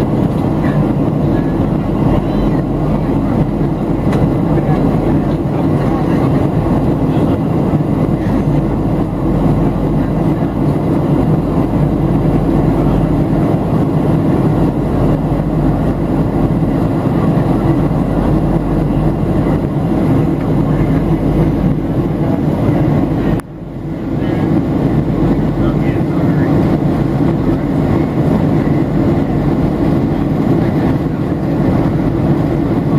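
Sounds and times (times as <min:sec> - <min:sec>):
jet engines roaring in cabin: 0:00.0 - 0:32.9.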